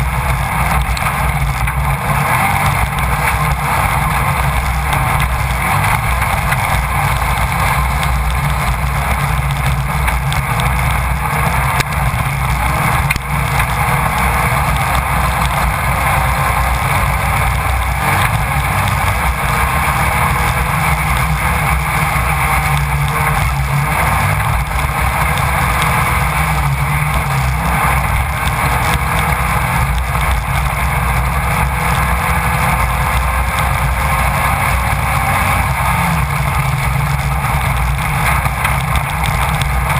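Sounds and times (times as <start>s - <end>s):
buggy engine running hard: 0.0s - 39.9s
constant noisy rush: 0.0s - 39.9s.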